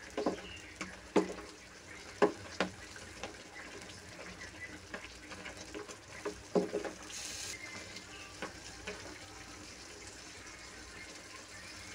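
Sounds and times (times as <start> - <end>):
soup bubbling in a pan: 0.0 - 11.9.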